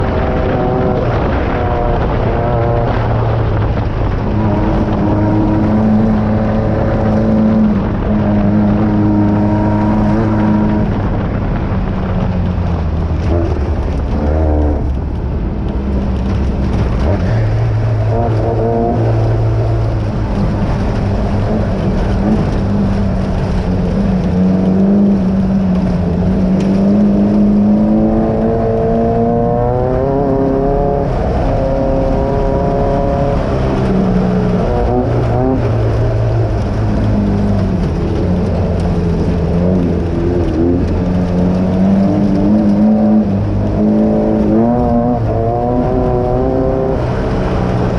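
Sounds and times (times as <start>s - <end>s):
race car engine revving: 0.0s - 47.9s
ride noise: 0.0s - 47.9s.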